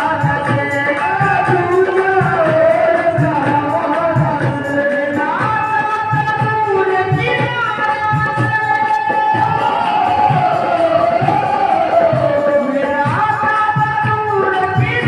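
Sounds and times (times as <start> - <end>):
hand drum beat: 0.0 - 15.0
woman singing: 0.0 - 15.0.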